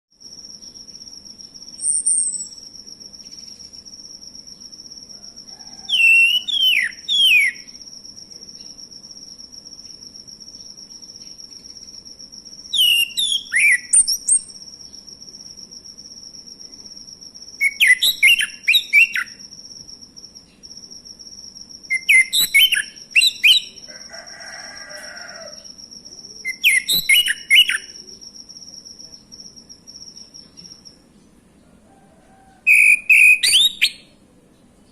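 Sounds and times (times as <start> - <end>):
high-pitched insect trill: 0.1 - 34.3.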